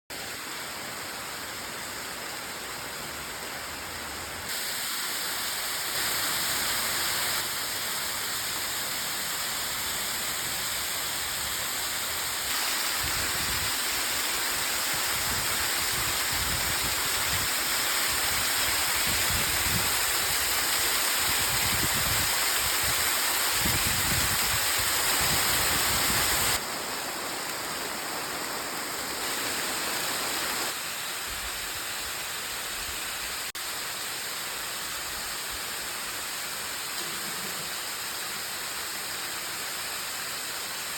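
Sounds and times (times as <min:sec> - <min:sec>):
waterfall rushing and splashing: 0:00.1 - 0:40.9.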